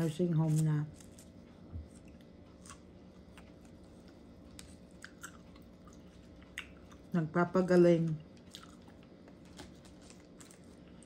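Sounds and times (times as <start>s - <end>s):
chewing food: 0.2s - 7.1s, 8.1s - 11.0s.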